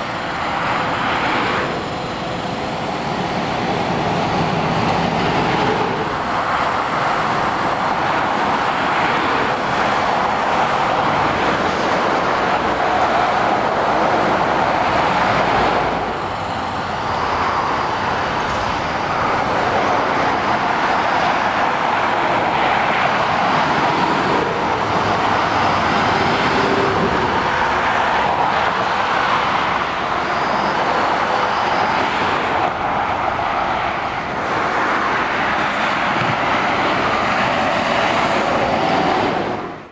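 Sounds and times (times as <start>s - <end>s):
motorway traffic: 0.0s - 39.9s.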